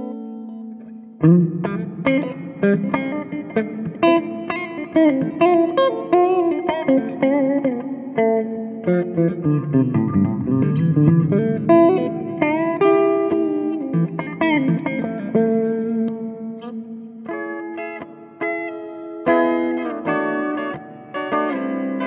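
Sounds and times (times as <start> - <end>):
clean electric guitar: 0.0 - 22.0.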